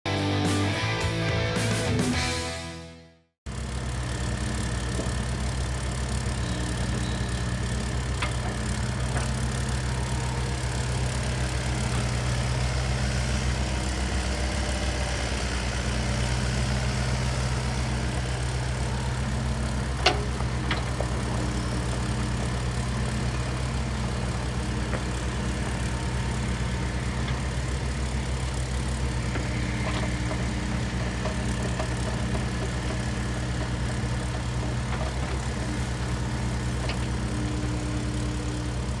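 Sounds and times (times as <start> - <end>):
diesel engine idling: 3.5 - 39.0.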